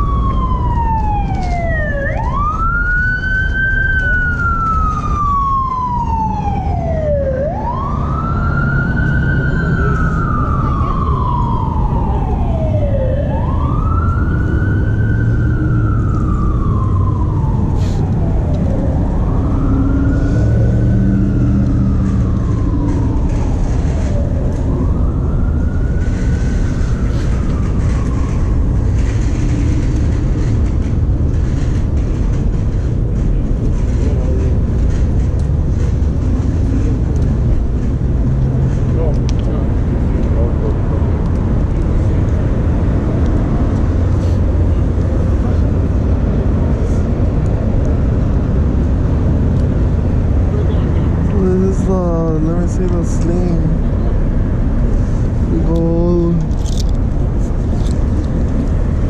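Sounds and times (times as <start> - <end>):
emergency siren wailing: 0.0 - 59.0
street noise rumble: 0.0 - 59.0.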